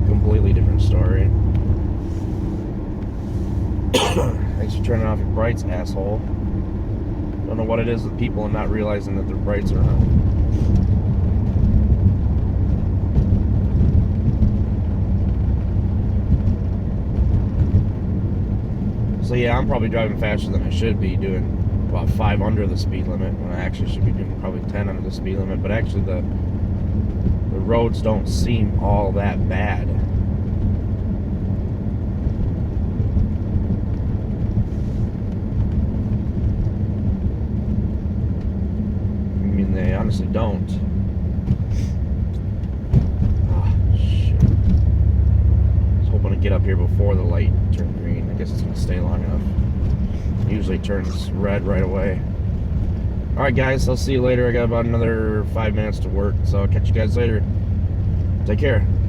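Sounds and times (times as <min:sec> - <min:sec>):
car cabin engine drone: 0:00.0 - 0:59.0.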